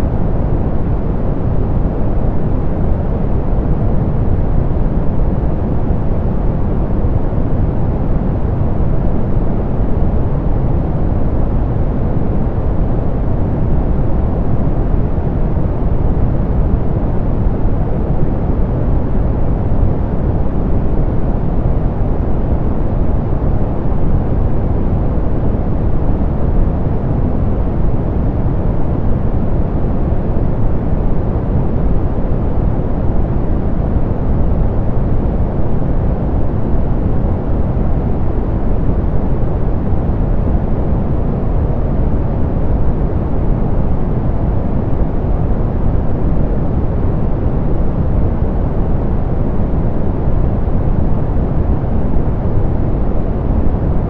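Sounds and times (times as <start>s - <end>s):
soft pink noise hiss: 0.0s - 54.0s.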